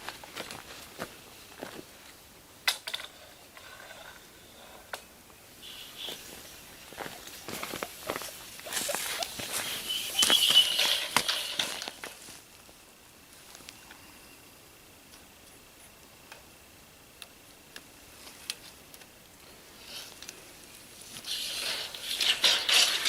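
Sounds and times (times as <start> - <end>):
rustling and scraping of handling: 0.0 - 14.0, 18.1 - 23.0.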